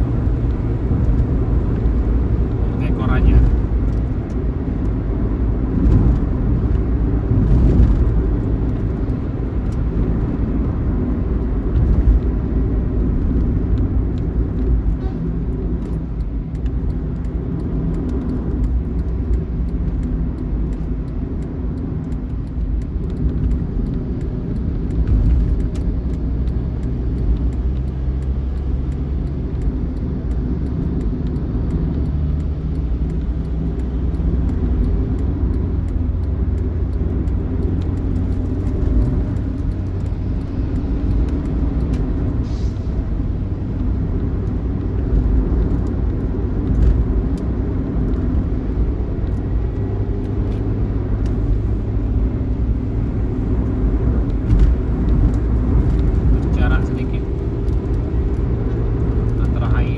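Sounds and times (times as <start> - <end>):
bus diesel engine rumble: 0.0 - 59.9
road noise: 0.0 - 59.9.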